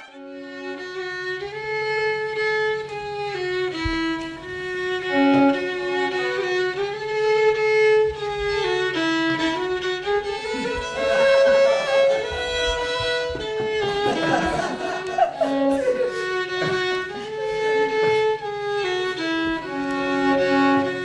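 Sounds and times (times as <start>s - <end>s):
fiddle playing slow melody: 0.0s - 21.0s.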